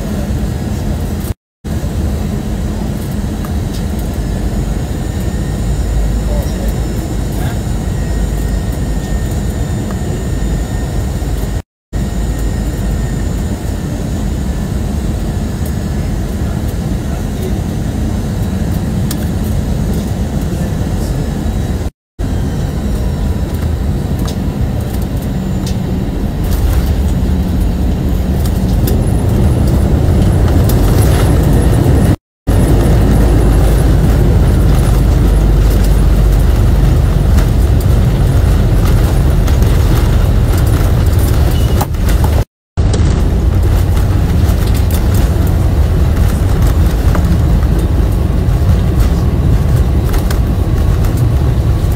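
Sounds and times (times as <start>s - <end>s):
jet engine and airflow roar: 0.0s - 51.9s.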